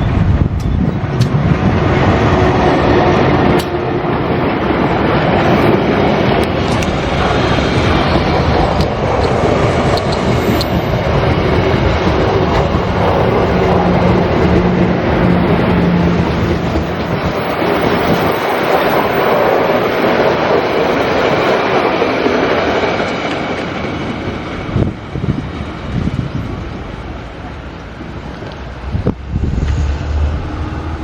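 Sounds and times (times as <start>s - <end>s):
sharp clicks of train wheels: 0.0s - 31.0s
train wheels rumbling on rails: 0.0s - 31.0s.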